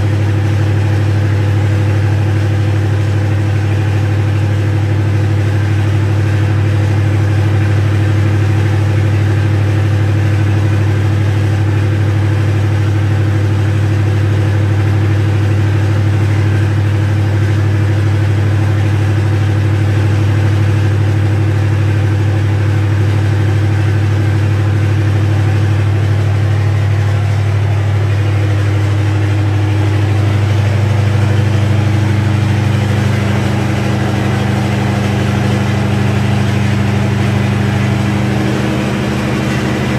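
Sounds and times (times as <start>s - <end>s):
diesel generator humming: 0.0s - 39.9s.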